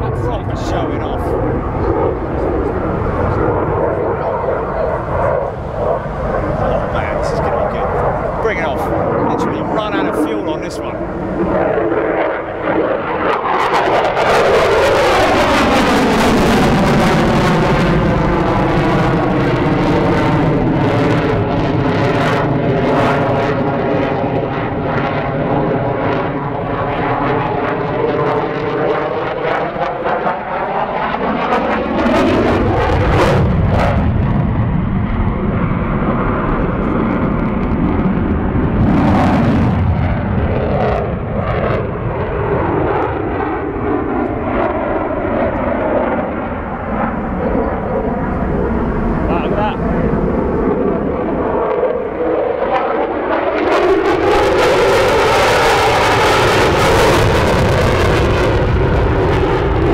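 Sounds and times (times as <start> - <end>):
fighter jet engine roar: 0.0 - 59.9.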